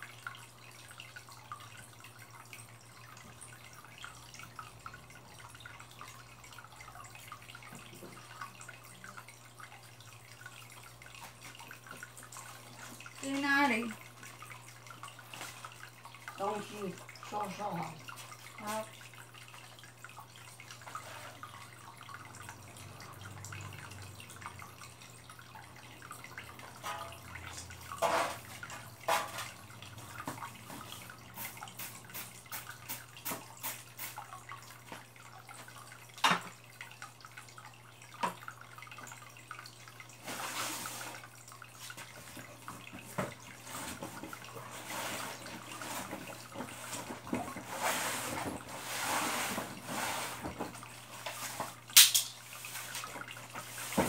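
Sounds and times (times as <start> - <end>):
water dripping and splashing: 0.0 - 54.0.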